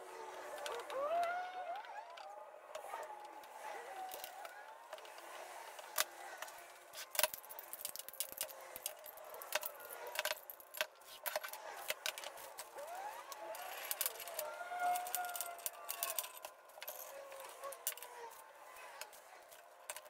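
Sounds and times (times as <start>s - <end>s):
metal clamps clinking: 2.0s - 20.0s.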